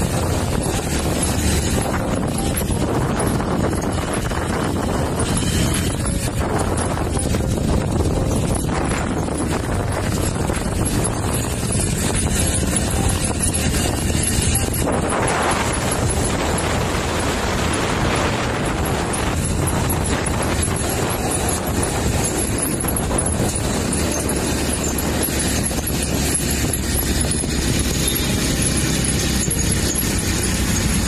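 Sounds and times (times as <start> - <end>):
vehicle engine and road noise: 0.0 - 31.0.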